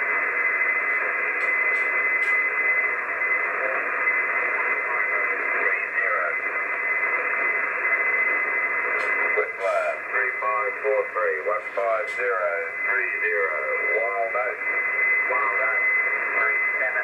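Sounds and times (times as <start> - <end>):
radio static hissing: 0.0 - 17.0.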